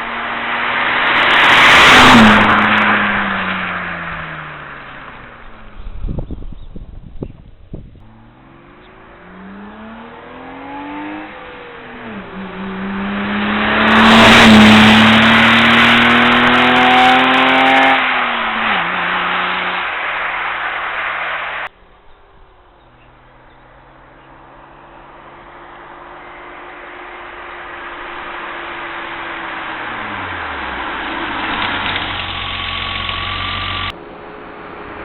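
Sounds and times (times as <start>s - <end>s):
car engine accelerating: 0.0s - 7.1s, 7.7s - 35.0s.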